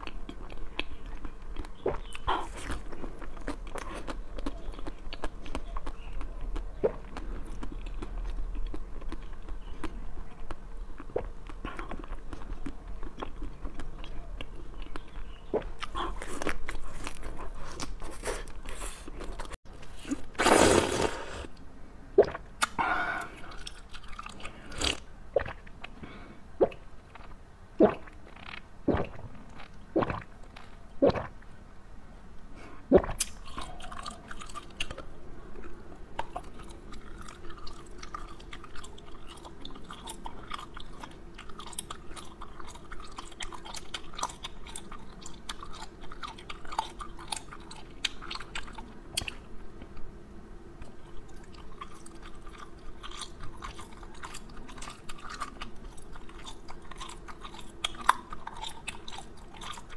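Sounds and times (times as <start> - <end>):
person crunching and chewing: 0.0 - 21.6, 22.6 - 25.1, 33.1 - 50.1, 50.8 - 59.9.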